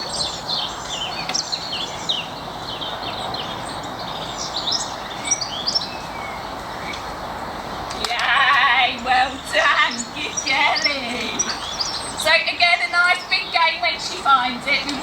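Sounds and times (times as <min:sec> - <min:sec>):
birds chirping and whistling: 0:00.0 - 0:07.1, 0:08.4 - 0:15.0
steady background hiss: 0:00.0 - 0:15.0.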